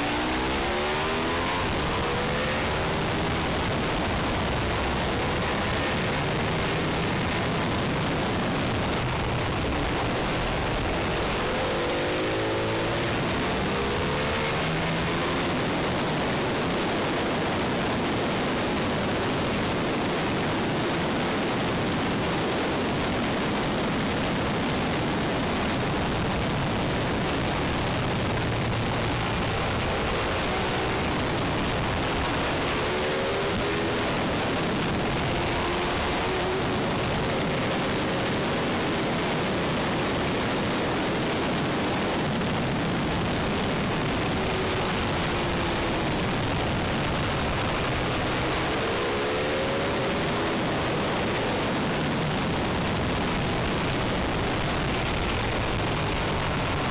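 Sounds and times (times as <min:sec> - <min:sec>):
loud wind rush over microphone: 0:00.0 - 0:56.9.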